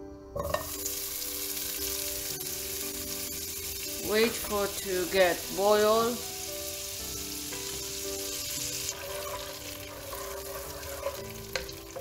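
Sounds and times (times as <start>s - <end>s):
butter sizzling in a wok: 0.4s - 12.0s.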